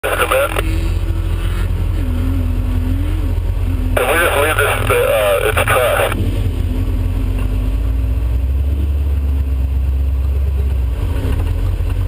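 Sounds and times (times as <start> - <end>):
deep engine rumble: 0.0 - 12.0.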